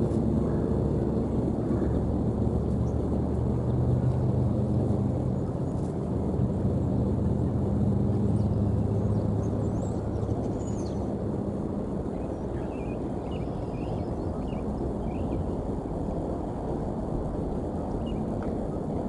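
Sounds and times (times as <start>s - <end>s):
distant engine drone: 0.0s - 19.0s.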